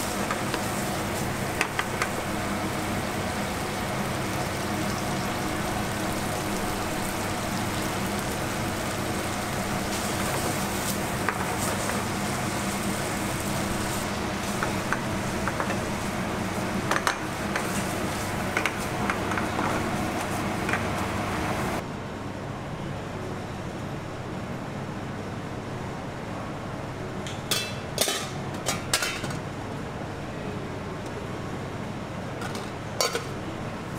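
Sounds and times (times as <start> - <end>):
gas burners hissing and humming: 0.0 - 22.3, 23.0 - 33.9.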